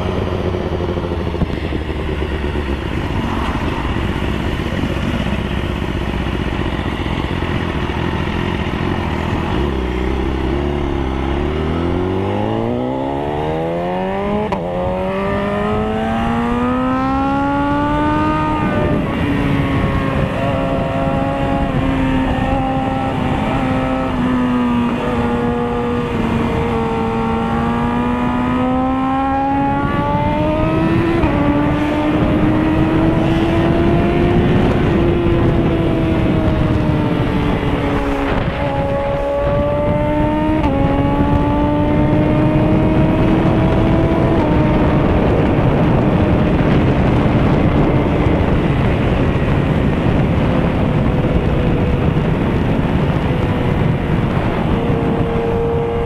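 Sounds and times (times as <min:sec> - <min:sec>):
motorcycle engine accelerating: 0:00.0 - 0:56.0
wind and road rush: 0:00.0 - 0:56.0.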